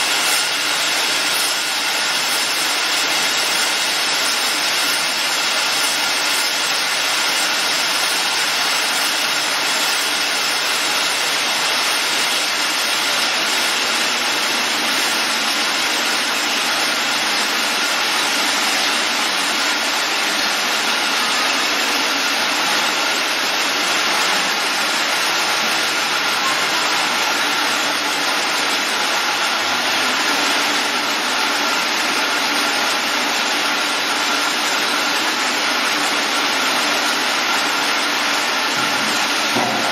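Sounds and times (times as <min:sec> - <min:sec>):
loud machinery noise: 0:00.0 - 0:39.9.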